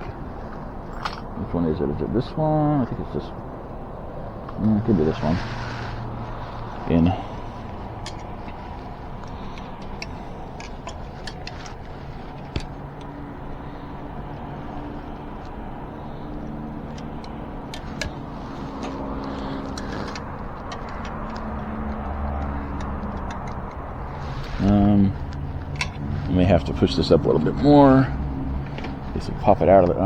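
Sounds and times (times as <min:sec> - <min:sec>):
background hum: 0:00.0 - 0:30.0.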